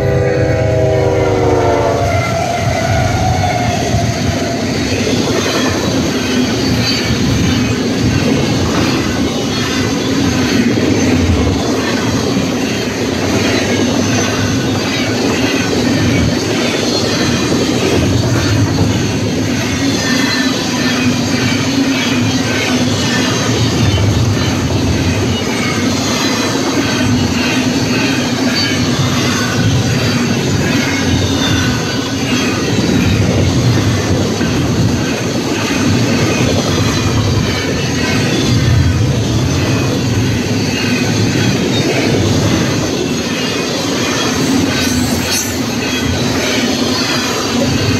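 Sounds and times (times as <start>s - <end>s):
freight train wheels rumbling on rail: 0.0s - 47.9s.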